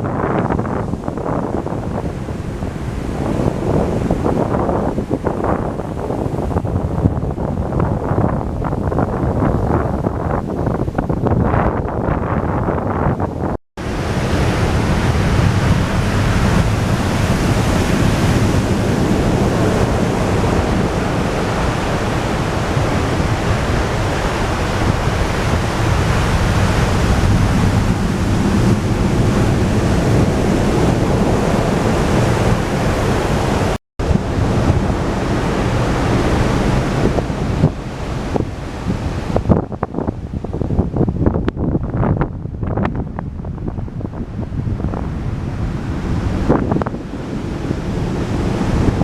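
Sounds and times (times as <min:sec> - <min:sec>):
heavy surf breaking: 0:00.0 - 0:11.8, 0:13.1 - 0:49.0
strong wind buffeting microphone: 0:00.0 - 0:49.0.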